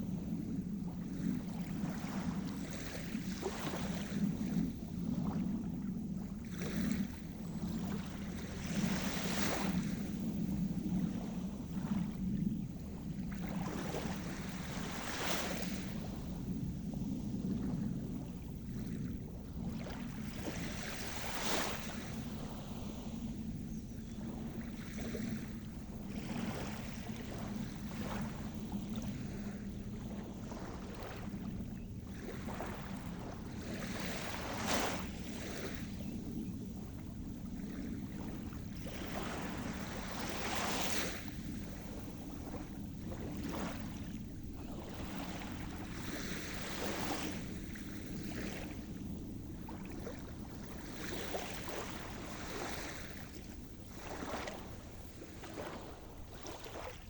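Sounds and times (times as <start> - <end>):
sea surf: 0.0 - 5.4, 6.0 - 57.0
waves breaking: 0.0 - 57.0.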